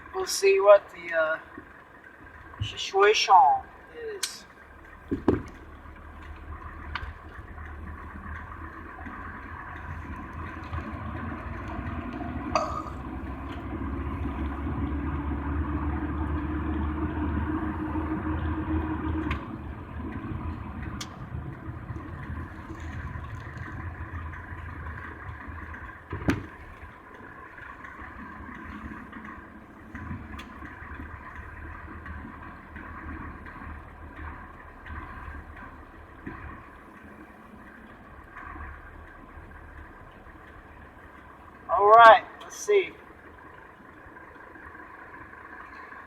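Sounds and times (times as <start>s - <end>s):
car running from inside cabin: 0.0s - 46.0s.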